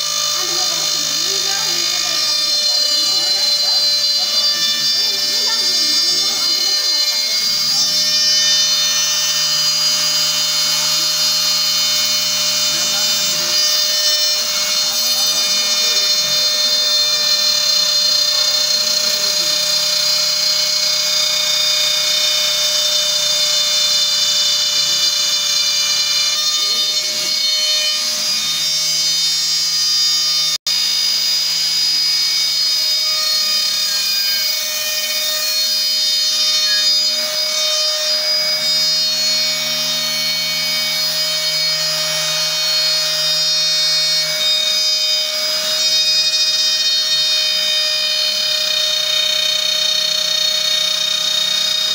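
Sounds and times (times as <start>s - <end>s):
router spindle high whine: 0.0s - 51.9s
stepper motors humming: 0.0s - 51.9s.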